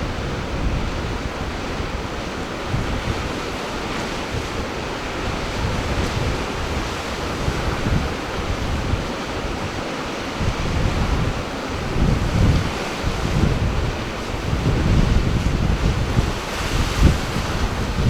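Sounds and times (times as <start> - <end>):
sea surf washing: 0.0 - 18.0
wind buffeting microphone: 0.0 - 18.0.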